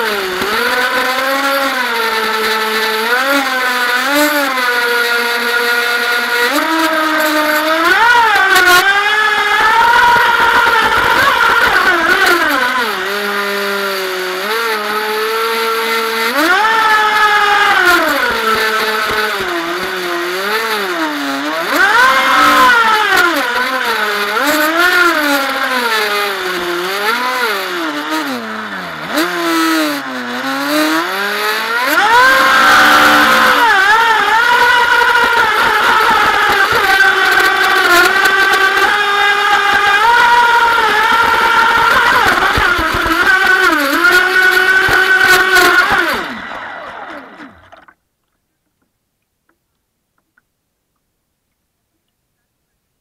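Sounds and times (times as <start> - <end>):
electric motor whining: 0.0 - 48.0.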